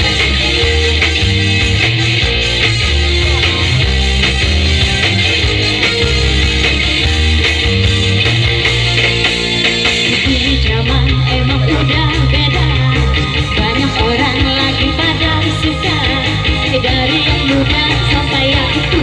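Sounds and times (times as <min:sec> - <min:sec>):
live band music: 0:00.0 - 0:19.0
wavering lead melody: 0:00.0 - 0:19.0.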